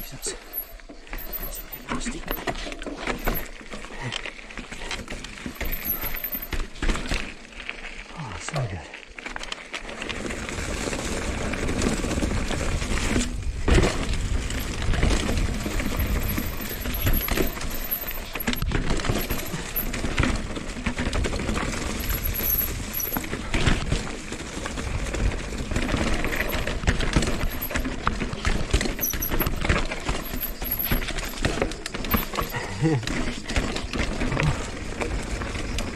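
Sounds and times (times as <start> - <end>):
metallic clinks and knocks from bike: 0.0 - 7.5, 11.1 - 35.9
tyres rumbling over rocks: 0.0 - 35.9.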